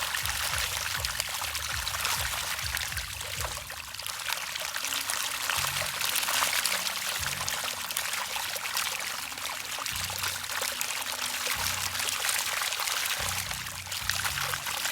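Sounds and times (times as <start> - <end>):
fish splashing water: 0.0 - 14.9.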